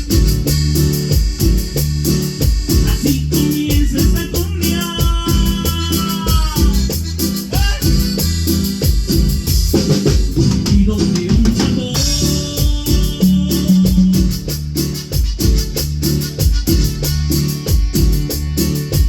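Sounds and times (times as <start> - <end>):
bass line: 0.0 - 19.0
drum kit beat: 0.0 - 19.0
sustained keyboard chords: 0.0 - 19.0.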